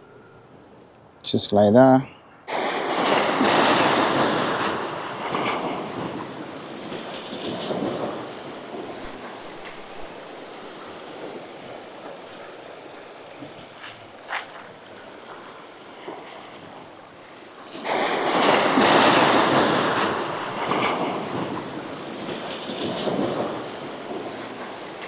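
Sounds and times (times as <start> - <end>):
surf washing against rocks: 2.5 - 25.0
wave breaking on rocks: 2.5 - 25.0.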